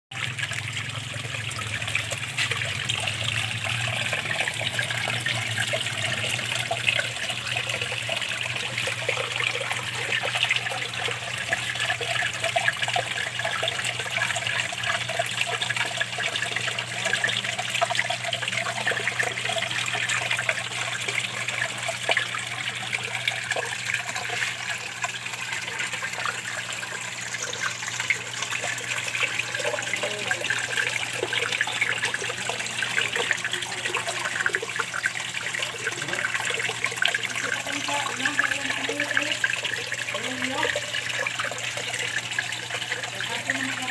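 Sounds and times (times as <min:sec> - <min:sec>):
waterfall splashing into pond: 0:00.1 - 0:43.9.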